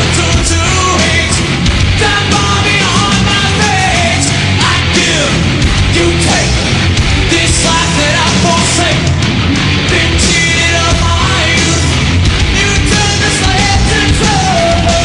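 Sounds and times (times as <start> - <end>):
heavy metal band playing live: 0.0 - 15.0.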